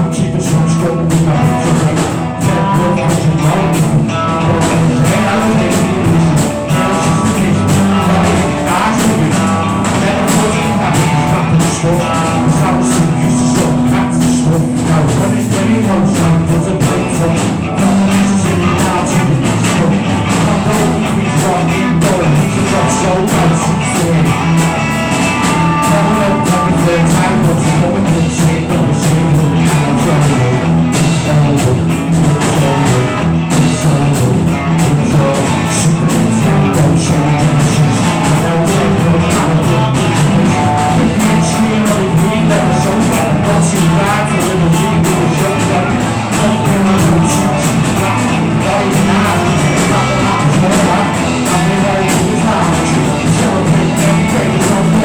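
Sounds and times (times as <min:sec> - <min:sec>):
drums steady beat: 0:00.0 - 0:55.0
rock band playing: 0:00.0 - 0:55.0.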